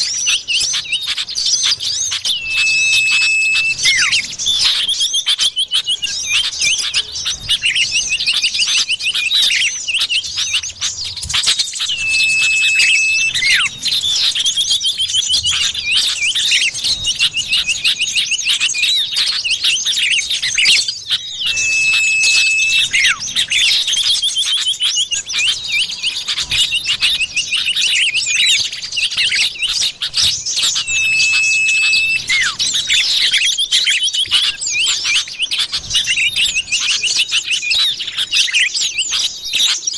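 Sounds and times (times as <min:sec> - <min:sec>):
bird chirps and trills: 0:00.0 - 0:39.7
long level bird whistle: 0:00.0 - 0:39.9.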